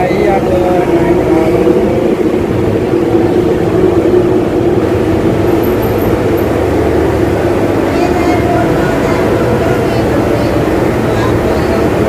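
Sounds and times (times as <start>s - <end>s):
ship engines droning: 0.0s - 12.0s.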